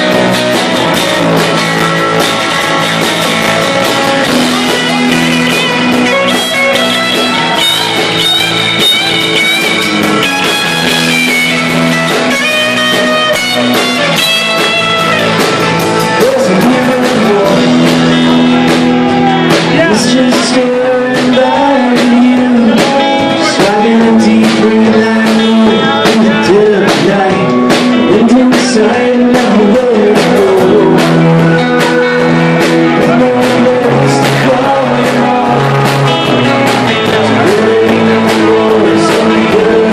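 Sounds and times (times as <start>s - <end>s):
live rock band playing: 0.0s - 39.9s
man singing lead: 0.0s - 39.9s.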